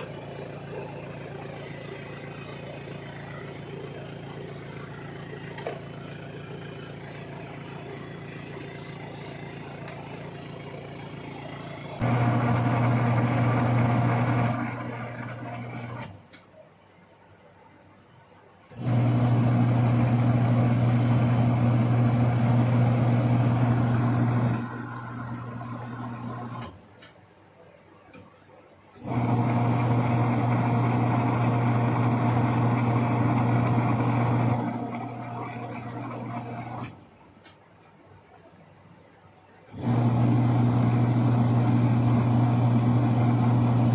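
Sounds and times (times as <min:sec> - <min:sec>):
washing machine motor humming: 0:00.0 - 0:16.3, 0:18.7 - 0:26.9, 0:29.0 - 0:37.1, 0:39.7 - 0:43.9.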